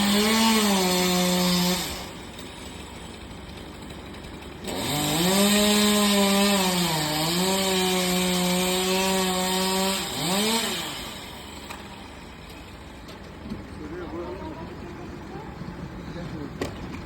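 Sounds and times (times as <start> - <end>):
chainsaw cutting wood: 0.0 - 13.7.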